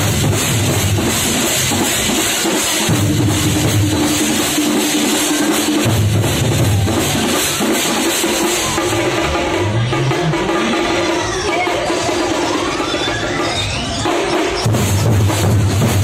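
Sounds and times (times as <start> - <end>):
deep booming drum beats: 0.0 - 16.0
stick-beaten drums playing: 0.0 - 16.0.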